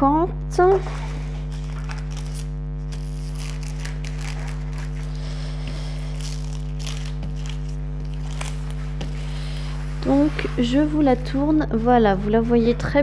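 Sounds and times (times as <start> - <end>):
low hum: 0.0 - 13.0
rustling plastic film: 0.8 - 12.1.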